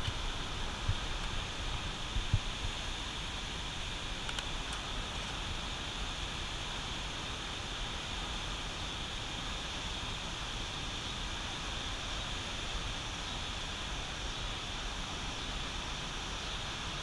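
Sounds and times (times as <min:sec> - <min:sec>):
whitewater rushing: 0:00.0 - 0:17.0.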